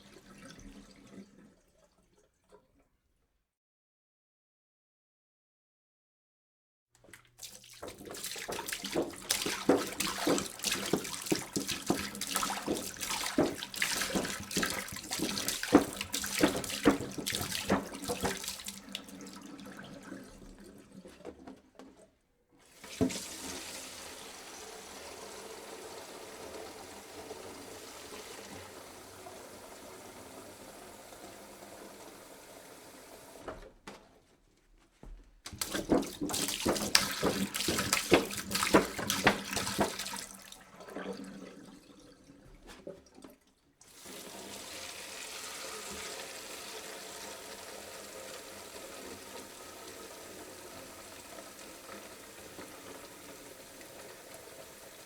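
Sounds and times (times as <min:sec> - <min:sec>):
water pouring into a jug: 0:00.0 - 0:02.9, 0:07.0 - 0:22.0, 0:22.6 - 0:33.4, 0:35.5 - 0:55.0.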